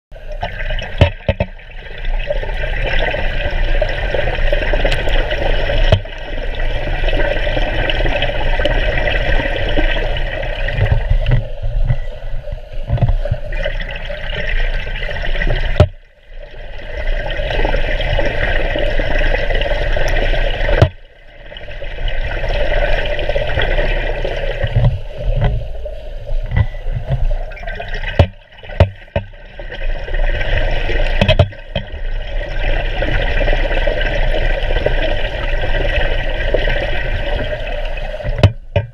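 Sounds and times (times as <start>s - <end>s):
underwater churning water and bubbles: 0.1s - 38.9s.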